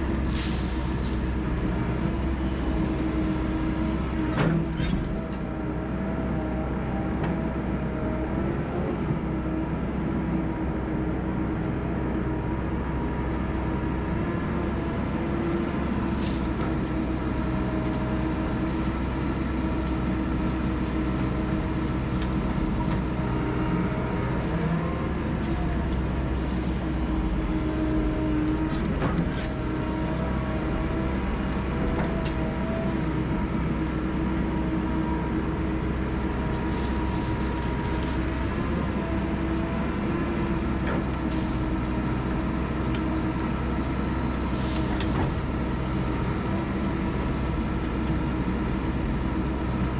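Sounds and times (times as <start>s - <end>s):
heavy equipment diesel engine: 0.0s - 49.9s.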